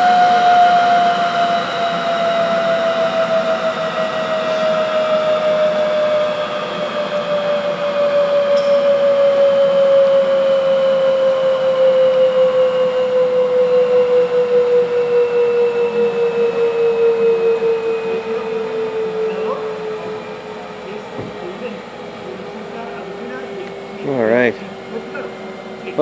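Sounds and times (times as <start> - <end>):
gas turbine spooling down: 0.0 - 26.0.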